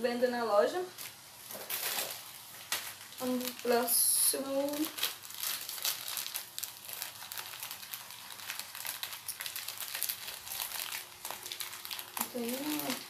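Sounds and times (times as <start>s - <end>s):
plastic bag crinkling: 1.0s - 13.0s.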